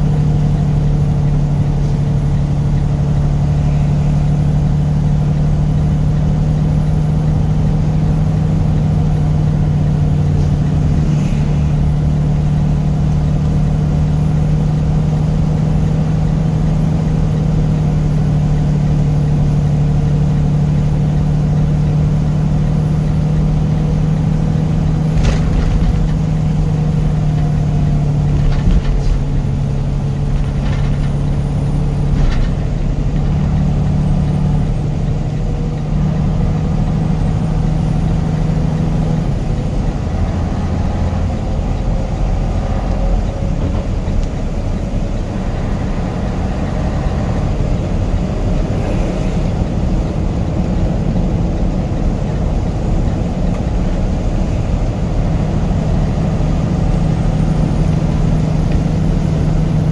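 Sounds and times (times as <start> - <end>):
road rumble: 0.0 - 59.9
vehicle engine hum: 0.0 - 59.9.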